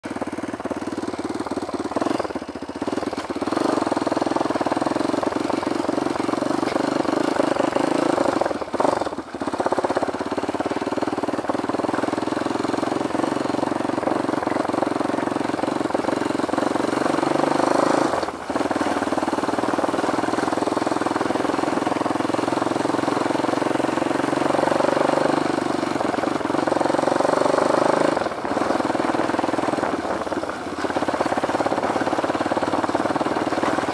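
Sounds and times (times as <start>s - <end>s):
dirt bike engine running: 0.0s - 33.9s.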